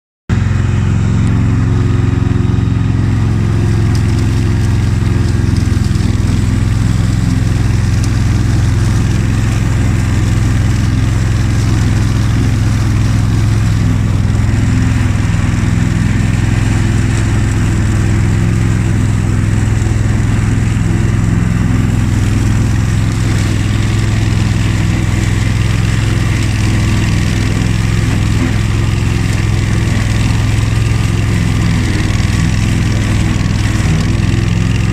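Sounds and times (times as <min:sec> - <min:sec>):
lawn tractor engine running: 0:00.3 - 0:34.9.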